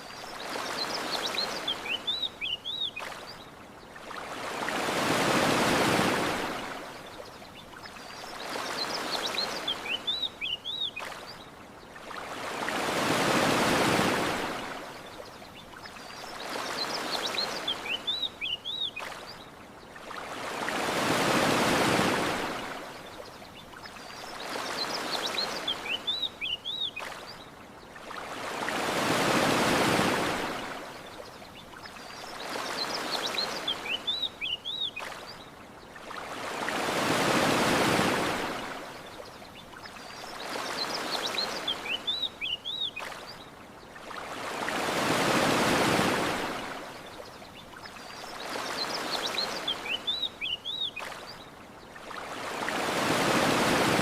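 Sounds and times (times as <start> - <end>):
sea waves washing onto shore: 0.0 - 54.0.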